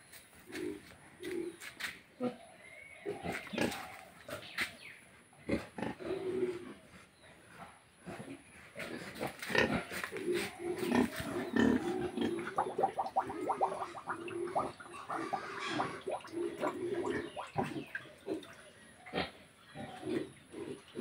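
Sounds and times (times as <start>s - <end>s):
pigs grunting: 3.0s - 4.6s, 5.4s - 21.0s.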